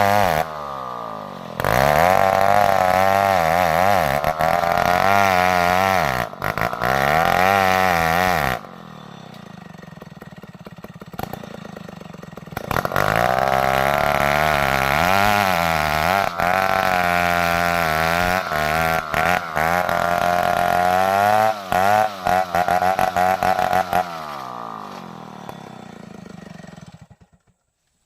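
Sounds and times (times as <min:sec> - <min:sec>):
chainsaw engine revving: 0:00.0 - 0:27.6.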